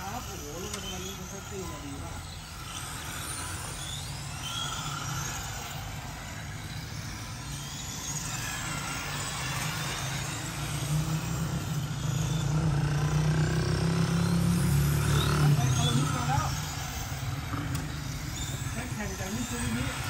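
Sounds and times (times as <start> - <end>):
rc car motors whining: 0.0 - 20.0.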